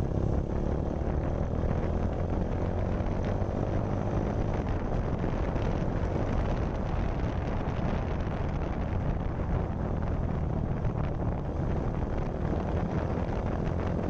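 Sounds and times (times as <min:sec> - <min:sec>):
motorcycle engine running: 0:00.0 - 0:14.0
wind rushing over microphone: 0:00.0 - 0:14.0.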